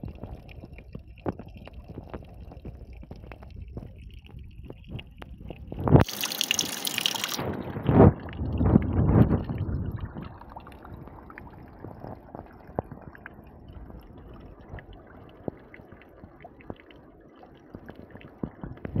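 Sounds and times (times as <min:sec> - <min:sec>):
flowing stream water: 0:00.0 - 0:19.0
water drips: 0:00.0 - 0:19.0.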